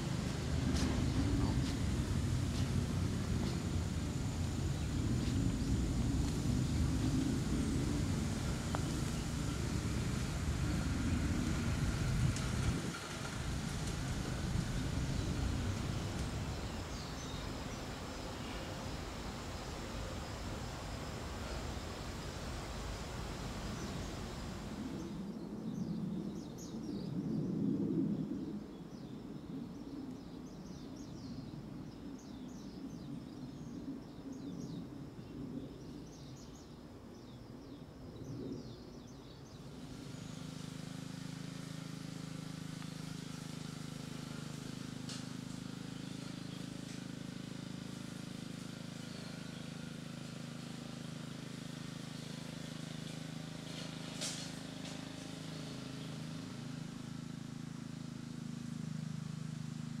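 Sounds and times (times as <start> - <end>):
steady low engine-like hum: 0.0 - 60.0.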